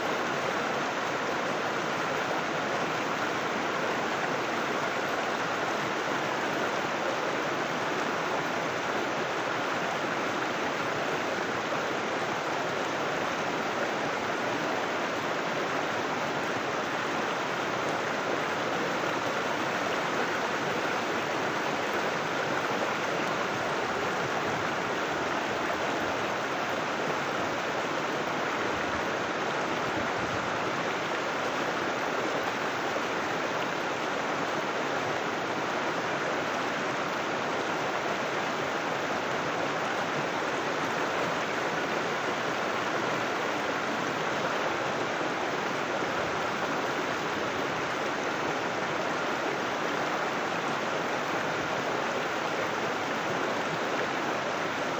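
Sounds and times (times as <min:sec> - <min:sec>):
river rushing over rocks: 0:00.0 - 0:54.9.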